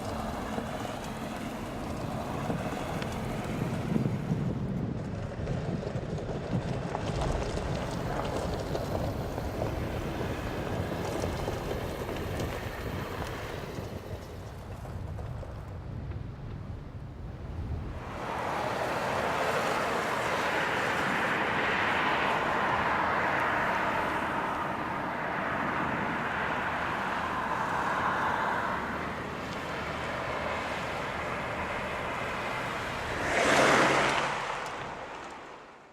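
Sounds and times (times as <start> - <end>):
wind noise: 0.0 - 35.6
car tyres on rough ground: 0.0 - 35.9.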